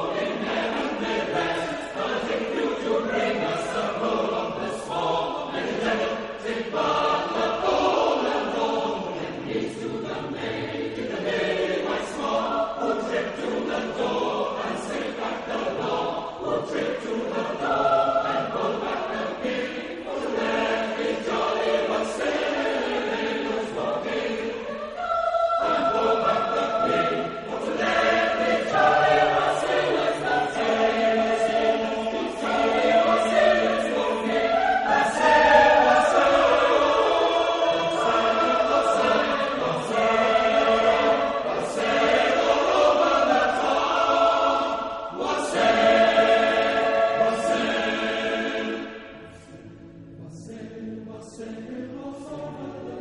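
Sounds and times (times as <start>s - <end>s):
choir singing in parts: 0.0s - 53.0s.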